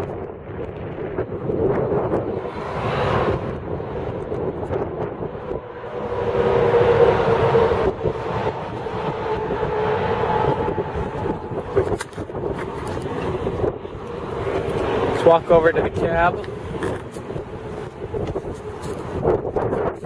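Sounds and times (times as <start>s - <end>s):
distant heavy vehicle engine drone: 0.0s - 20.0s
wind rumbling on microphone: 0.0s - 20.0s.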